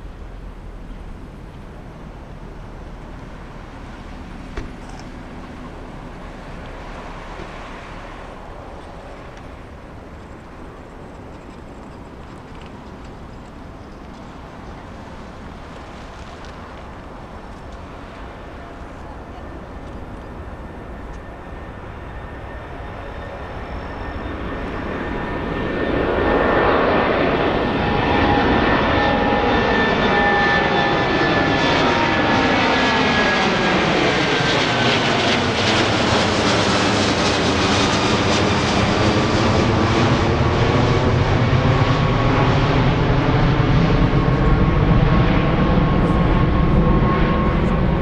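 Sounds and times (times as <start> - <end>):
deep jet rumble: 0.0 - 48.0
jet engines at takeoff power: 0.0 - 48.0
jet engine whine sliding down: 2.2 - 48.0.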